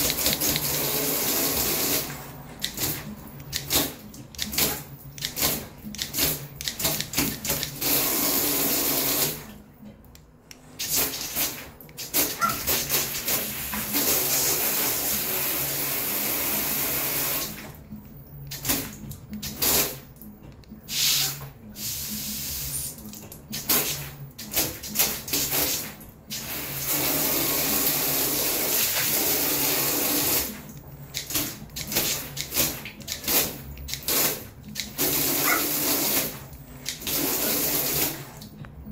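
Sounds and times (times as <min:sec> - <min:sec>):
water jet spraying on glass: 0:00.0 - 0:04.8, 0:05.4 - 0:09.5, 0:10.8 - 0:17.7, 0:18.5 - 0:20.1, 0:20.9 - 0:38.4.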